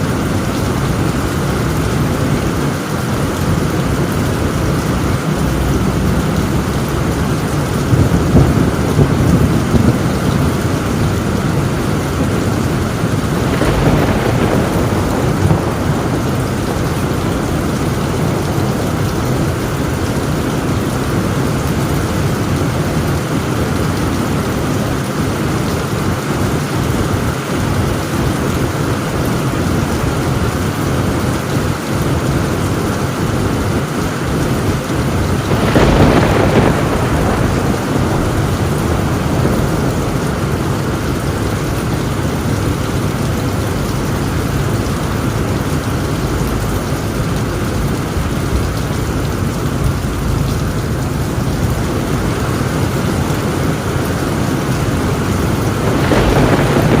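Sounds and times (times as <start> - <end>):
thunderclap: 0.0 - 27.2, 31.7 - 57.0
heavy rain on a tin roof: 0.0 - 57.0.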